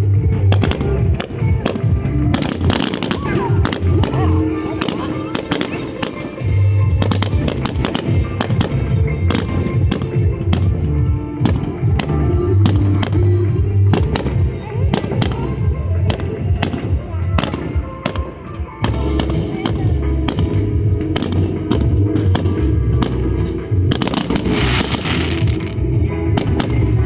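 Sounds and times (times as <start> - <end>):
fireworks bangs and crackles: 0.0 - 27.0
loud music with heavy bass: 0.0 - 27.0.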